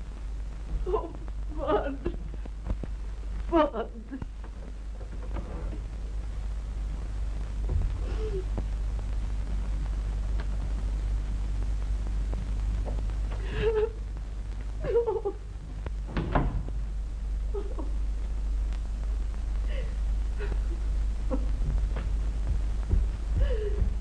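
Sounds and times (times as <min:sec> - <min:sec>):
film soundtrack hum and hiss: 0:00.0 - 0:24.0.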